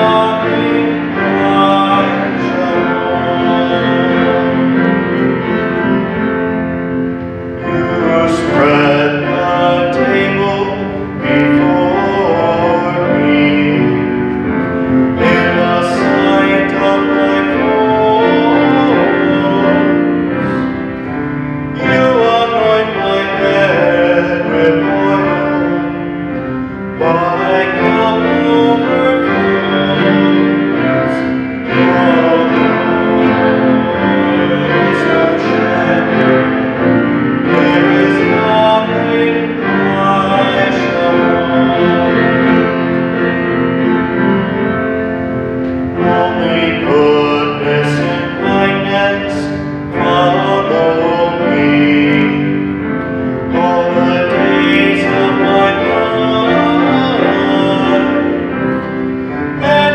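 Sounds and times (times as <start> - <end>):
keyboard accompaniment: 0.0 - 59.9.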